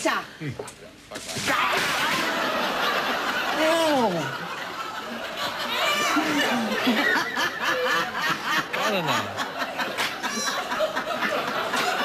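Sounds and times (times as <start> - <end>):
people laughing and giggling: 1.8 - 12.0.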